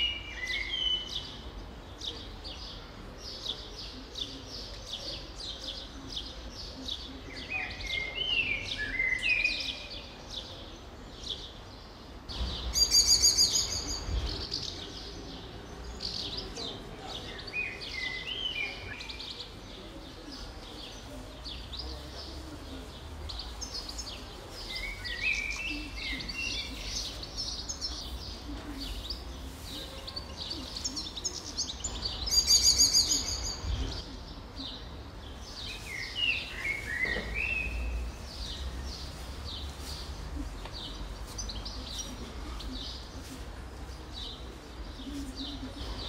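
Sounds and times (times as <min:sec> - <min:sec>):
songbirds singing: 0:00.0 - 0:46.0.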